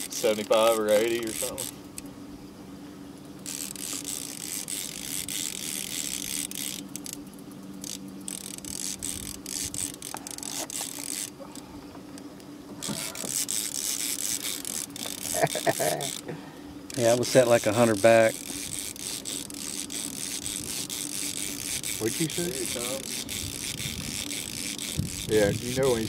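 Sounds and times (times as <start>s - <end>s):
fishing reel drag buzzing: 0.0s - 2.1s, 3.2s - 11.8s, 12.8s - 26.0s.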